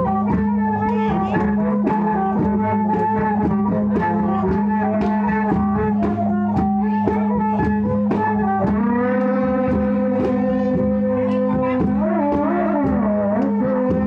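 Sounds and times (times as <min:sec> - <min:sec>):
drum beating: 0:00.0 - 0:14.0.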